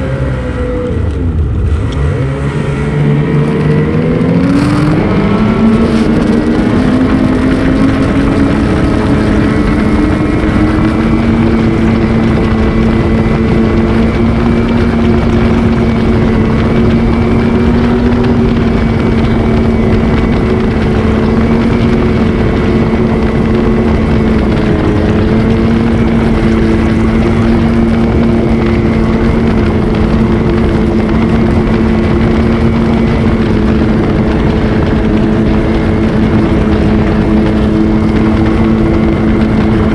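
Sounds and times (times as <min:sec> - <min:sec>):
snowmobile engine: 0:00.0 - 0:39.9
wind noise on microphone: 0:00.0 - 0:39.9.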